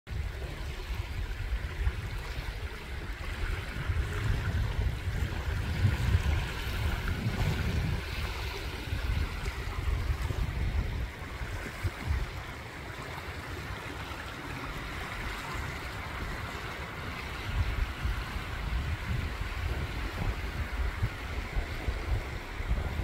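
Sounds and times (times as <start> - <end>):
surf washing on beach: 0.1 - 23.0
wind rumbling on microphone: 0.1 - 23.0.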